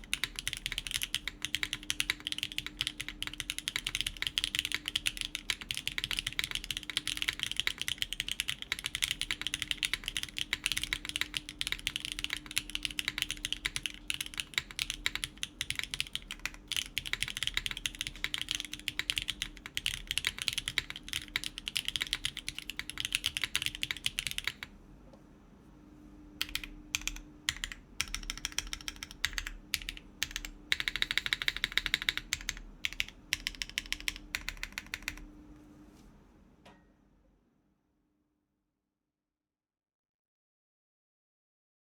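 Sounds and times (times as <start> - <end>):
mechanical keyboard typing: 0.0 - 24.7, 26.4 - 35.3.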